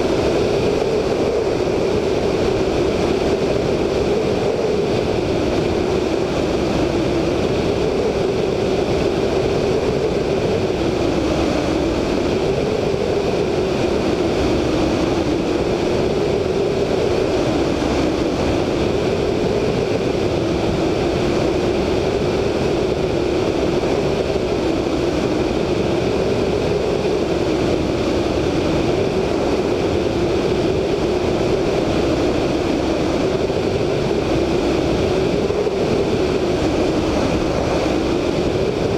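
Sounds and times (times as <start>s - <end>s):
radial engine and propeller droning: 0.0s - 38.9s
wind rushing over microphone: 0.0s - 38.9s.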